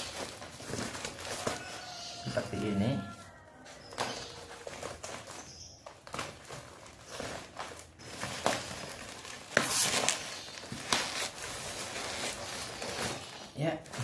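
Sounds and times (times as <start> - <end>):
cardboard and tape ripping: 0.0 - 14.0.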